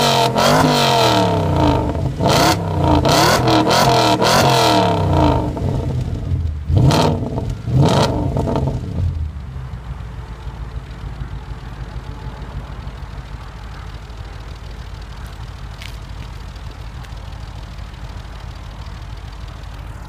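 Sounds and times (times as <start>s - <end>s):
car engine idling: 0.0s - 20.0s
car engine revving: 0.0s - 20.0s.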